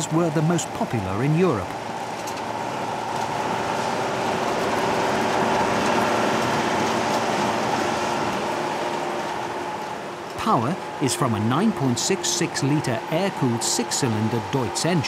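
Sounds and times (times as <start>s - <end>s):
harvester machinery humming: 0.0s - 15.0s.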